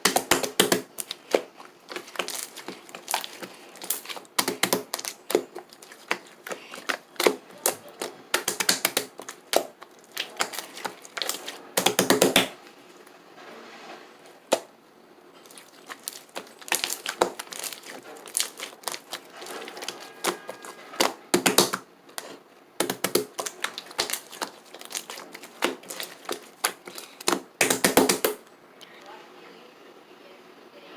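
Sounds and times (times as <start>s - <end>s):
slime crackling by hand: 0.0s - 13.1s, 13.9s - 28.5s.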